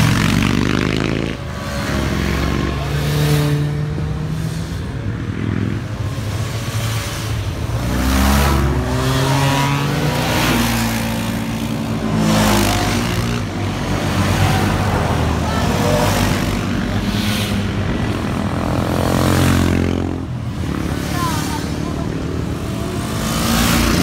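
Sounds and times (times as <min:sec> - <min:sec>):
motorcycles revving past: 0:00.0 - 0:24.0.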